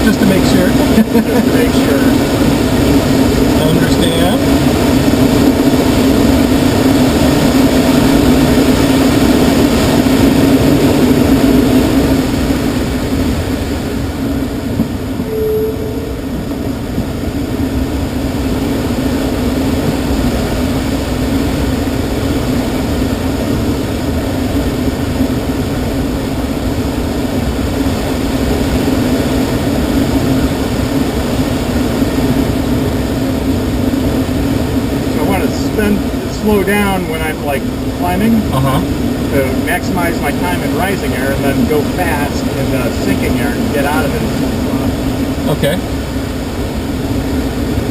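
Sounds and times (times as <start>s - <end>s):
air rushing past glider cockpit: 0.0s - 47.9s.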